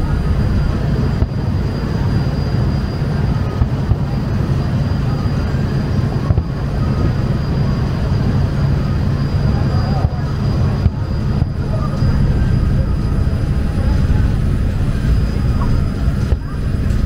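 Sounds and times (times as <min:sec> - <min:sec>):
boat engines rumbling: 0:00.0 - 0:17.0
faint high whine: 0:00.0 - 0:17.0
wind: 0:00.0 - 0:17.0.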